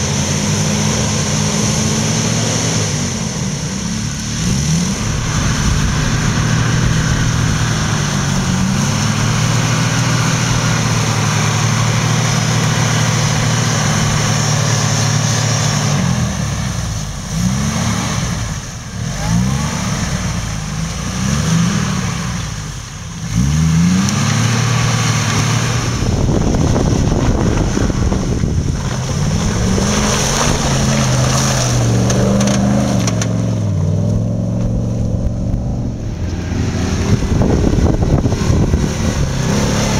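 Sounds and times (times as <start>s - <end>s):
off-road engine revving: 0.0s - 39.9s.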